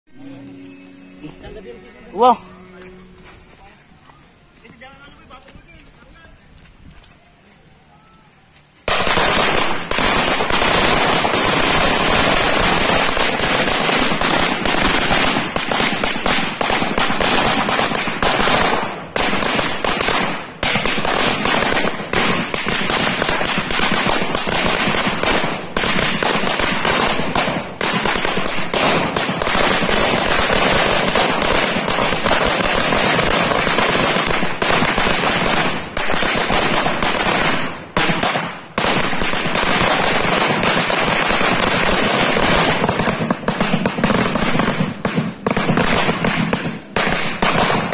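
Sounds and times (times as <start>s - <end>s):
firecracker belt rapid bangs: 8.8s - 47.9s.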